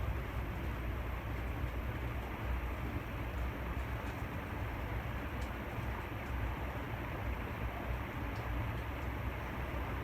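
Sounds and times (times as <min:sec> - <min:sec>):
ceiling fan running: 0:00.0 - 0:10.0.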